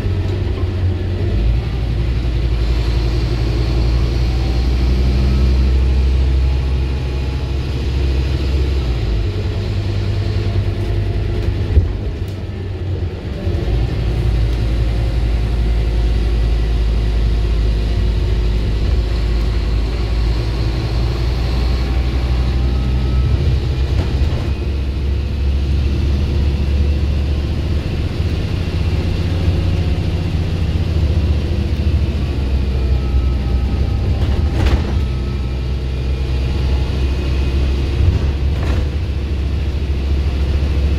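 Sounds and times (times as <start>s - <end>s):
bus diesel engine: 0.0s - 40.9s
road rumble: 0.0s - 40.9s.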